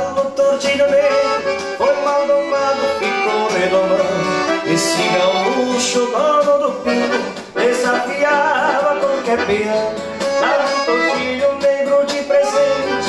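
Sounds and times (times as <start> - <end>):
accordion playing: 0.0 - 13.0
person singing: 0.0 - 13.0.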